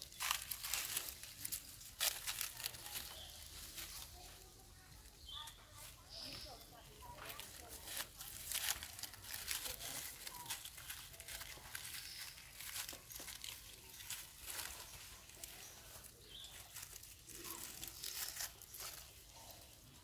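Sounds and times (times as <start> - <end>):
dry leaves rustling and crackling: 0.0 - 20.0.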